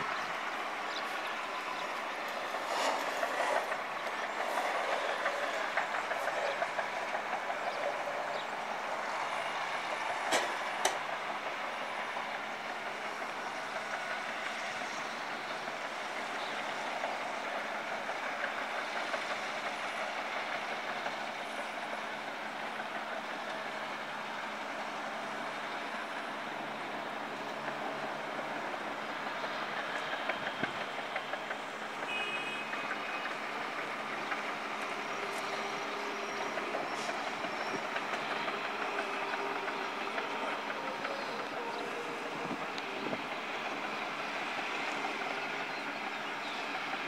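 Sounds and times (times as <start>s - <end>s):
construction machinery engines: 0.0s - 47.0s
traffic: 0.0s - 47.0s.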